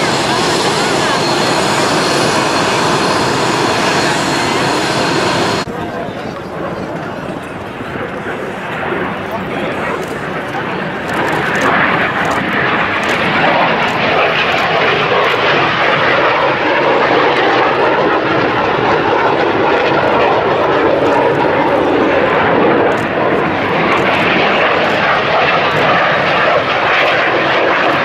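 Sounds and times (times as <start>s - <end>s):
jet fighter flying past: 0.0s - 28.0s.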